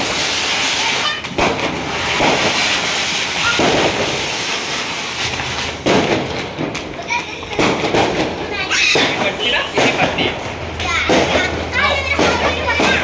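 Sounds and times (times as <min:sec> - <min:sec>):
loud steady hissing: 0:00.0 - 0:13.0.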